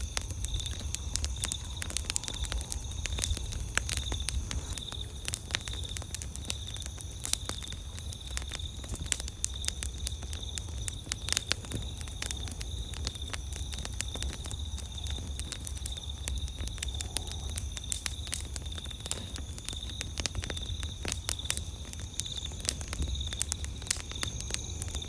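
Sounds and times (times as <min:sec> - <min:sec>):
campfire crackling and popping: 0:00.0 - 0:25.0
insects chirping: 0:00.0 - 0:25.0.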